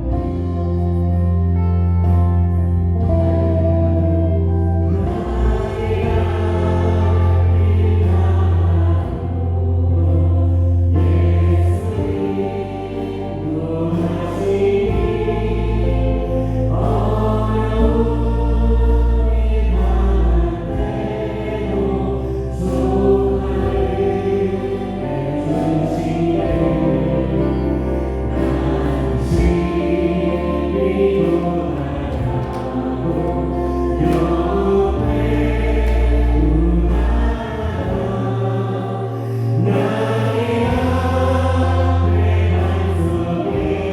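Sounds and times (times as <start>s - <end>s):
bass guitar held notes: 0.0s - 43.9s
keyboard: 0.0s - 43.9s
voices singing together: 2.0s - 43.9s.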